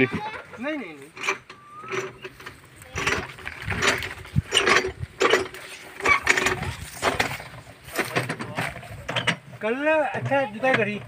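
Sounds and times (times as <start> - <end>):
stalks crackling and rattling: 0.0 - 11.0
tractor engine and tiller running: 0.0 - 11.0.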